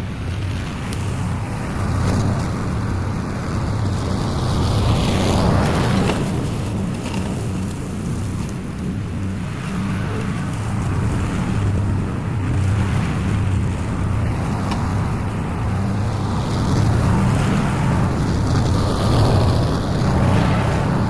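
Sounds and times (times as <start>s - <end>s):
small gasoline engine running: 0.5s - 21.0s.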